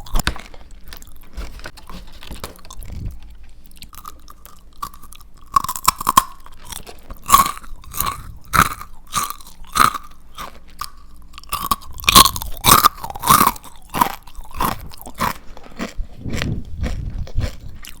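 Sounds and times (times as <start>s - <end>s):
crunchy chewing of fried chicken: 0.0s - 18.0s.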